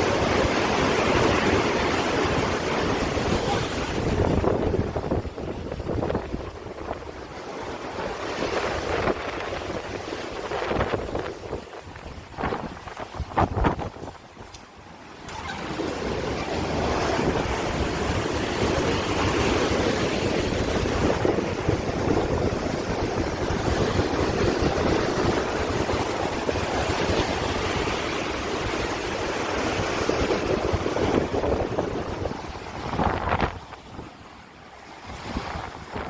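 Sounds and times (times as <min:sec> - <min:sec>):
water rushing: 0:00.0 - 0:06.0, 0:07.3 - 0:33.5
wind buffeting microphone: 0:00.0 - 0:36.0.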